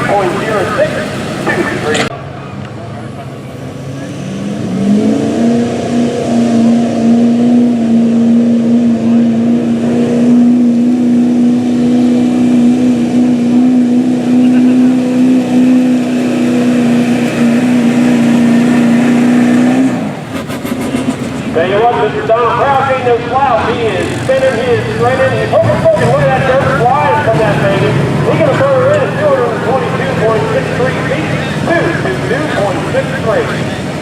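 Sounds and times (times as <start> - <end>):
diesel truck engine at full throttle: 0.0 - 34.0.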